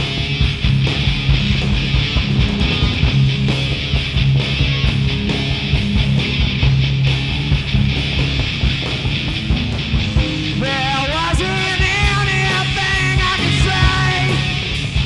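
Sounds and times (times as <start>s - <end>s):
lead guitar line: 0.0s - 15.0s
punk rock band playing: 0.0s - 15.0s.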